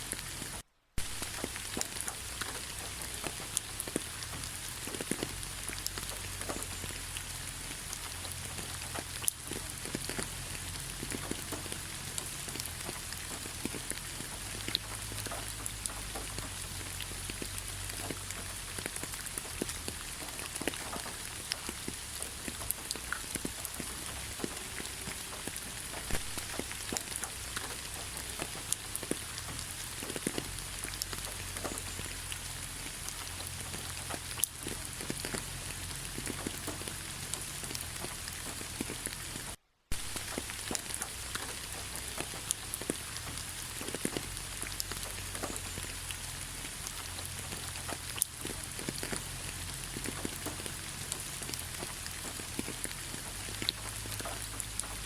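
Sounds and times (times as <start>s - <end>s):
raindrop hits: 0.0s - 55.0s
steady rain: 0.0s - 55.0s.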